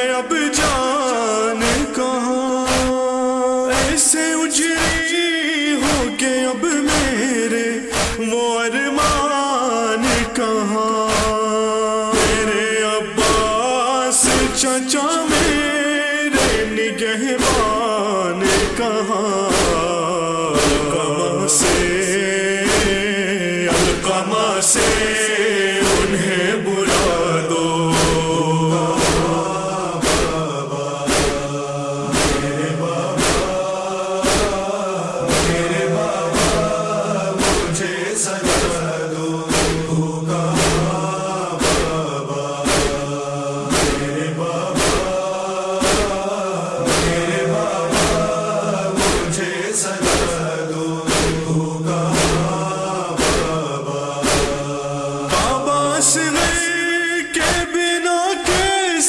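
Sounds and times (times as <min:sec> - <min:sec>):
voices chanting in chorus: 0:00.0 - 0:59.0
sharp beat: 0:01.6 - 0:02.0, 0:02.7 - 0:03.0, 0:03.7 - 0:05.2, 0:05.8 - 0:08.4, 0:09.0 - 0:09.3, 0:10.0 - 0:10.4, 0:11.0 - 0:11.5, 0:12.1 - 0:13.6, 0:14.2 - 0:15.7, 0:16.4 - 0:16.8, 0:17.4 - 0:56.8, 0:57.4 - 0:57.7, 0:58.4 - 0:58.8.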